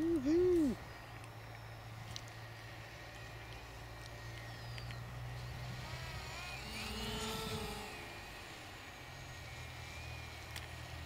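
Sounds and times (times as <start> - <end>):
model plane motor whine: 0.0 - 11.0
steady low hum: 0.0 - 11.0.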